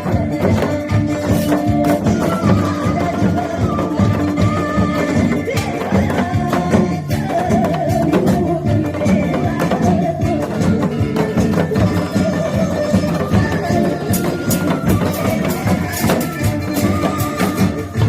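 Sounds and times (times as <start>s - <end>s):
lively music with percussion: 0.0s - 18.0s.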